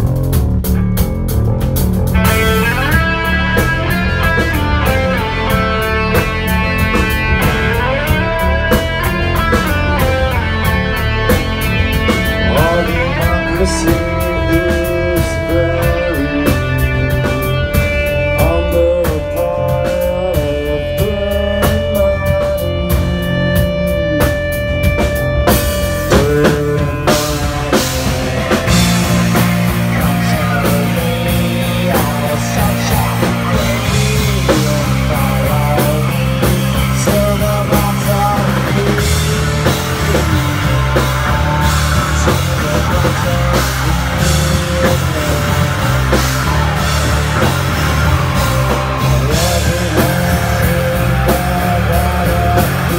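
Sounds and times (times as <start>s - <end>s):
electric guitar: 0.0s - 52.9s
rock band playing: 0.0s - 52.9s
ticking beat: 0.0s - 52.9s.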